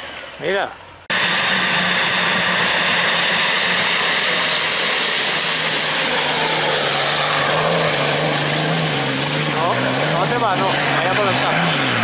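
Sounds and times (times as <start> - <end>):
off-road engine droning: 0.0 - 12.0.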